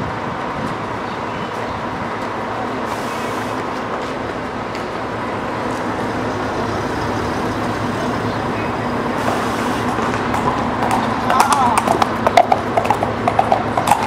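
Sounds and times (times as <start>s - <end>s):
street traffic noise: 0.0s - 14.0s
vehicle engine running: 0.0s - 14.0s.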